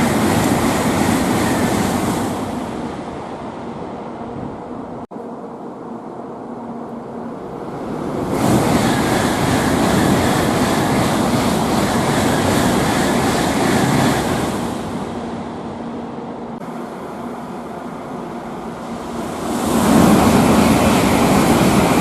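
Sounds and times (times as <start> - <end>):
high-speed train passing: 0.0 - 22.0.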